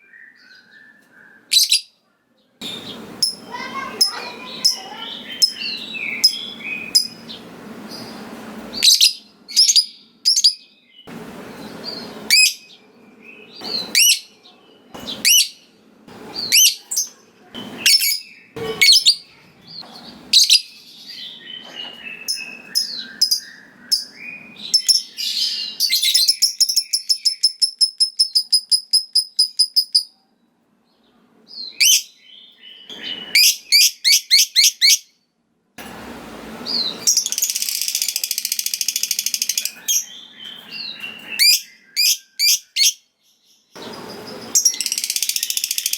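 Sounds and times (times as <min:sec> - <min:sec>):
lovebird chirping and trilling: 0:01.5 - 0:02.0, 0:02.6 - 0:15.7, 0:16.3 - 0:30.1, 0:31.6 - 0:35.1, 0:36.7 - 0:43.1, 0:43.8 - 0:45.9.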